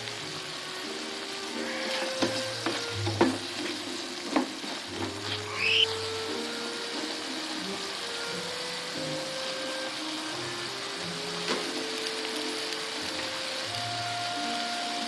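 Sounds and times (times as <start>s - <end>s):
food sizzling in a pan: 0.0s - 15.0s
soft background music: 0.0s - 15.0s.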